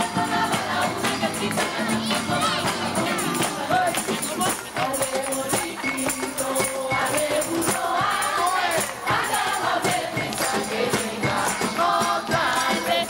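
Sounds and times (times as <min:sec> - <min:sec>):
group singing a carol: 0:00.0 - 0:13.0
tambourine and jingling percussion: 0:00.0 - 0:13.0.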